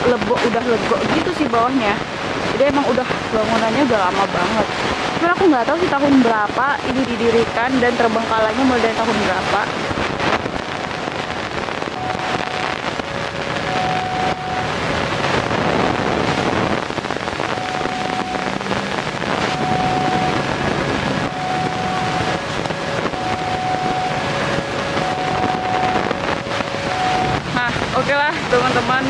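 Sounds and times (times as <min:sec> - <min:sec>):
road traffic noise: 0:00.0 - 0:29.0
wind on microphone: 0:00.0 - 0:29.0.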